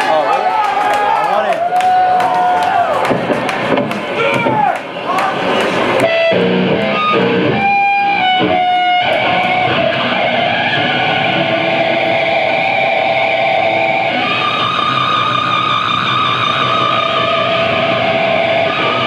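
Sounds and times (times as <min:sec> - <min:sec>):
electric guitar through amplifier: 0:02.8 - 0:19.0.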